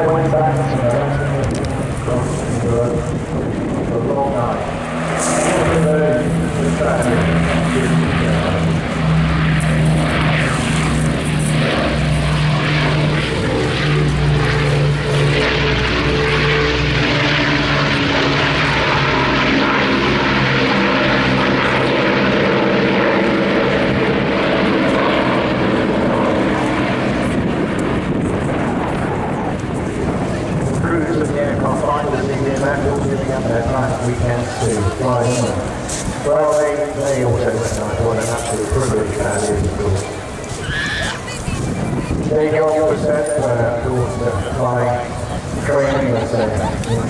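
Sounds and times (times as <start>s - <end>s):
propeller aircraft engines droning: 0.0s - 47.0s.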